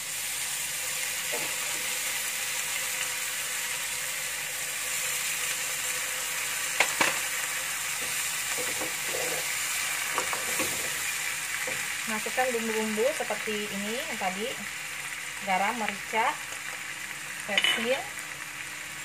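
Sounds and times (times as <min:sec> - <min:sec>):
water sizzling in hot wok: 0:00.0 - 0:19.0.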